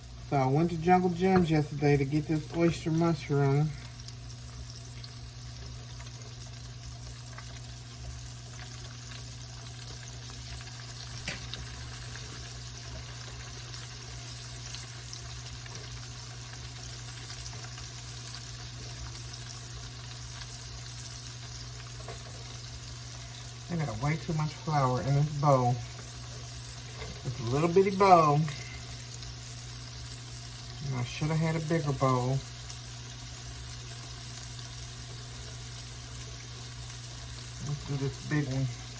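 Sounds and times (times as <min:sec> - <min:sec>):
mushrooms sizzling in hot oil: 0:00.0 - 0:38.9.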